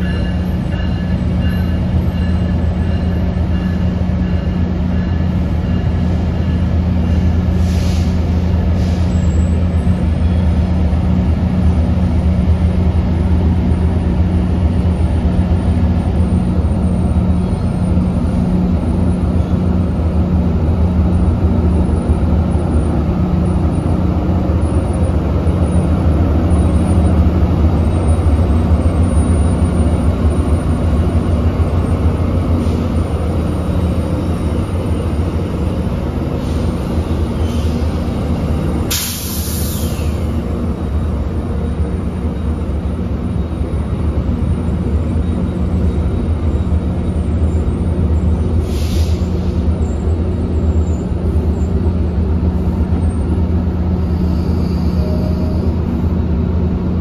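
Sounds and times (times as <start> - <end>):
diesel locomotive hum: 0.0 - 57.0.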